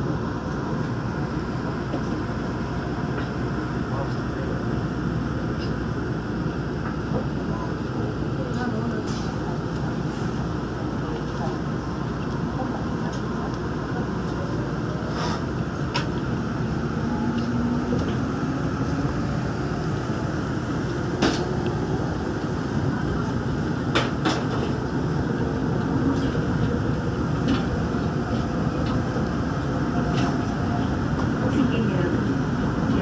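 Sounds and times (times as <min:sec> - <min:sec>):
monorail car rumbling: 0:00.0 - 0:33.0.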